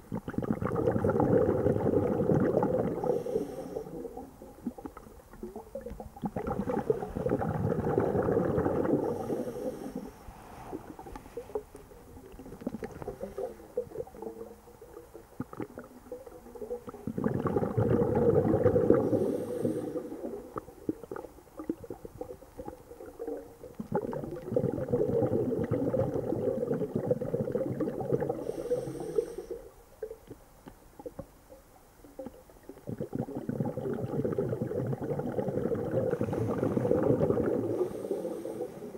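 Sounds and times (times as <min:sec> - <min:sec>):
air bubbling underwater: 0:00.0 - 0:09.9, 0:10.6 - 0:28.6, 0:32.2 - 0:38.9
faint hiss: 0:01.8 - 0:17.2, 0:17.8 - 0:38.9.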